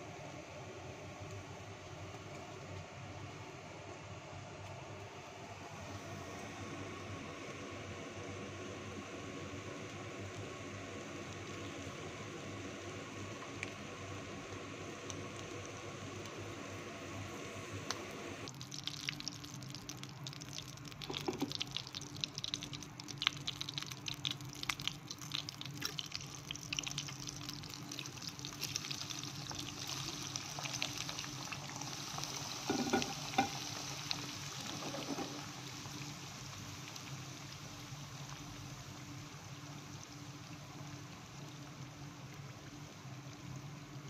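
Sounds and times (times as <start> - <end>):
food deep-frying in oil: 4.5 - 44.0.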